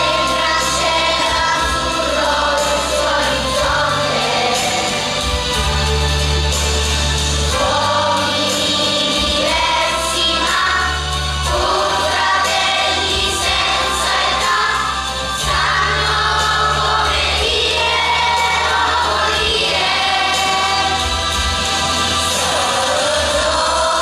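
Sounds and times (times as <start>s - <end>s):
children's choir singing: 0.0s - 24.0s
instrumental accompaniment: 0.0s - 24.0s.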